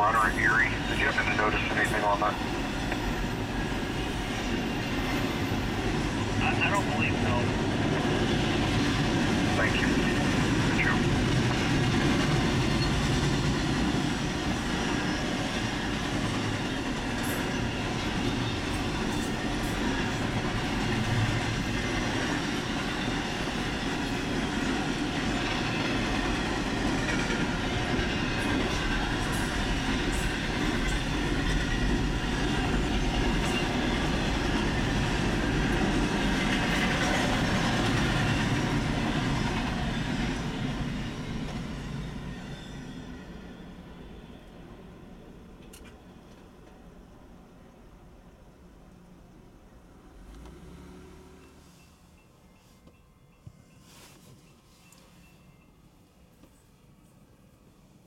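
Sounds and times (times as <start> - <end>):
steel wheels on rail: 0.1 - 44.7, 50.1 - 55.6.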